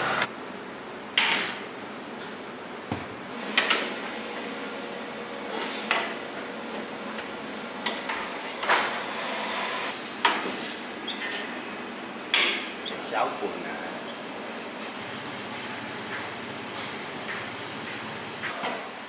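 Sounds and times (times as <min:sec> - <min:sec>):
cooker mechanical hum: 0:00.0 - 0:19.0.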